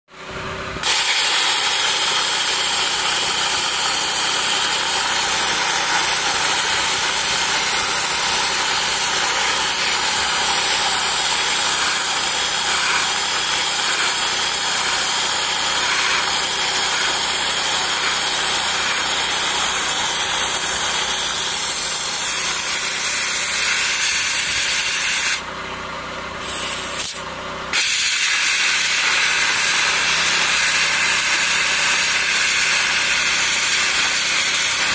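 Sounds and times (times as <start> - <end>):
dry ice blaster hissing: 0.8 - 25.5, 26.4 - 34.9.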